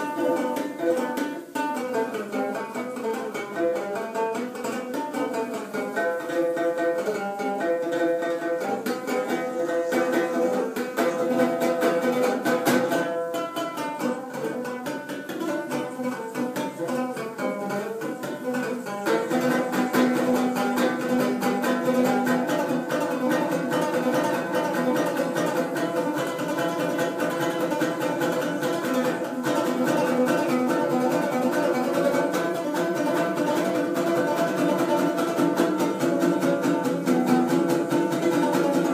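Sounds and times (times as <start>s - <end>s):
plucked string instrumental music: 0.0s - 38.9s.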